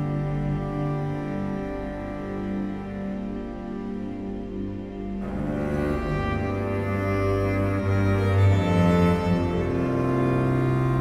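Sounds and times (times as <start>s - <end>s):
low bowed strings music: 0.0s - 11.0s.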